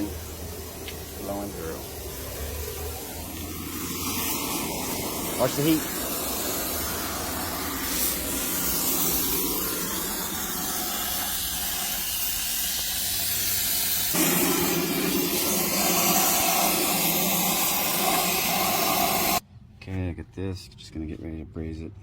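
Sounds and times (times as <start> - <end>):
torch flame hissing: 0.0 - 19.4.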